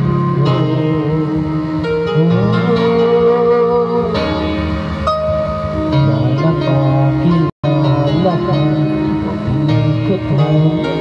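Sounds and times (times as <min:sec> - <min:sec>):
man singing into microphone: 0:00.0 - 0:04.6, 0:05.9 - 0:11.0
backing music with guitar: 0:00.0 - 0:11.0.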